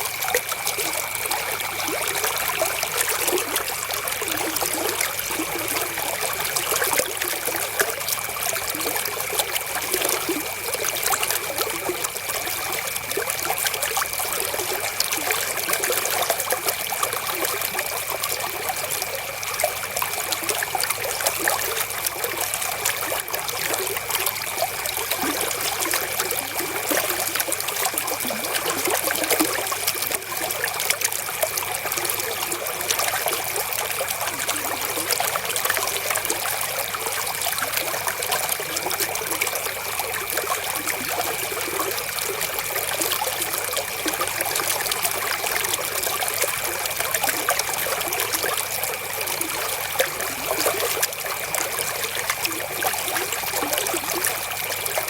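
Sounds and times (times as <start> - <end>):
flowing river water: 0.0 - 55.0.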